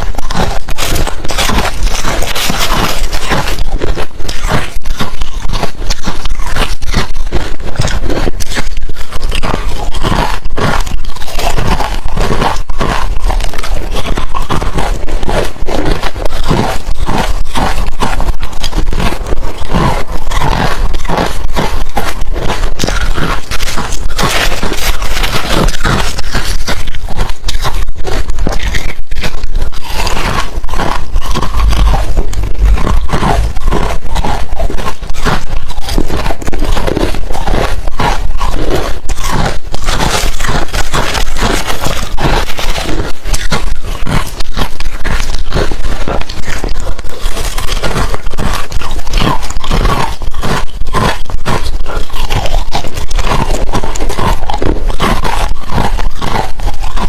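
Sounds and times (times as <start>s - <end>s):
chewing crushed ice: 0.0s - 57.0s.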